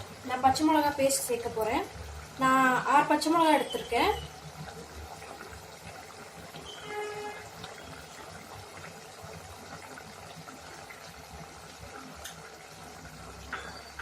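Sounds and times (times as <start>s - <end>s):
gravy bubbling in pan: 0.0s - 14.0s.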